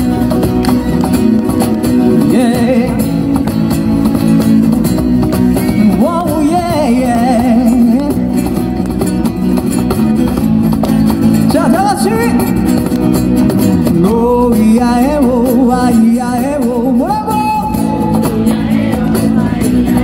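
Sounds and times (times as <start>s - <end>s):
live guitar-led band music: 0.0s - 20.0s.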